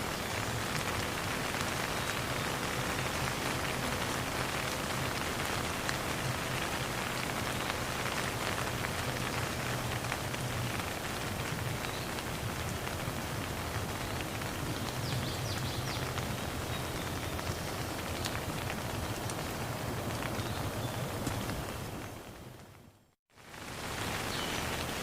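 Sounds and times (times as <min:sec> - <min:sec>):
rain pattering on a surface: 0:00.0 - 0:25.0.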